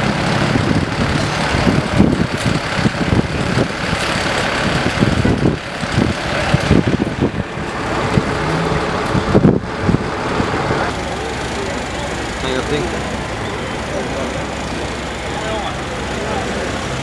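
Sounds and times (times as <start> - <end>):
diesel engine idling: 0.0 - 17.0
street noise: 0.0 - 17.0.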